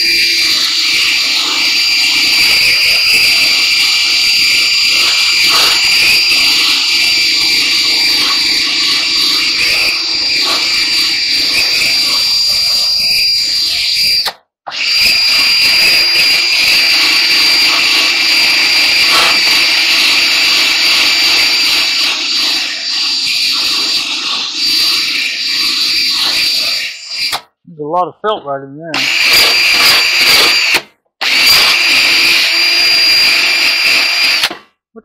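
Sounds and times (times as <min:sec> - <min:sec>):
drill wire brush on metal: 0:00.0 - 0:27.4, 0:29.0 - 0:34.6.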